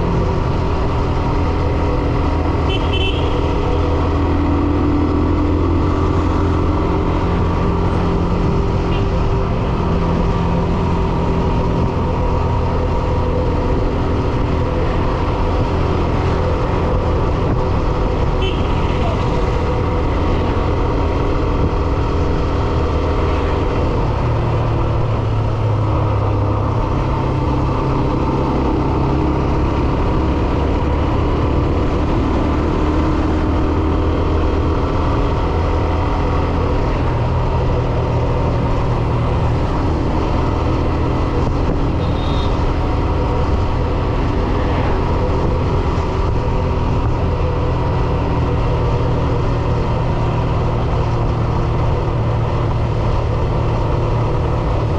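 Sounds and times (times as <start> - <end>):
traffic and road noise: 0.0 - 54.9.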